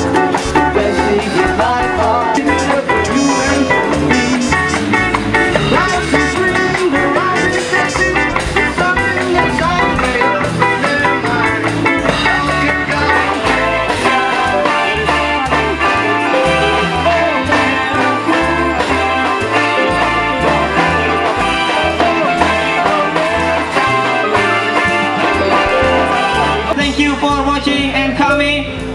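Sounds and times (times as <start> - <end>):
bass guitar: 0.0 - 28.9
drums: 0.0 - 28.9
electric and acoustic guitars: 0.0 - 28.9
man singing into microphone: 0.0 - 28.9.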